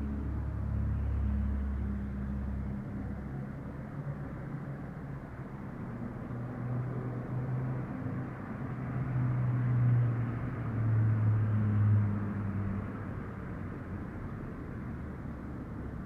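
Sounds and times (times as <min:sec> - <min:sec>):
hum of passing vehicles: 0:00.0 - 0:16.0.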